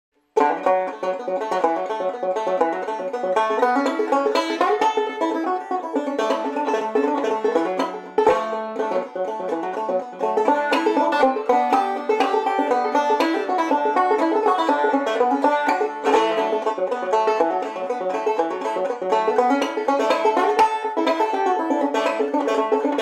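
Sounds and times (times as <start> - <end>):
banjo played clawhammer style: 0.2 - 23.0.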